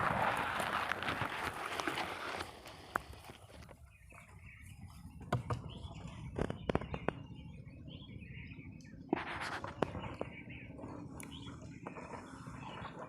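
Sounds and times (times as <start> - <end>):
small birds chirping: 1.7 - 13.0.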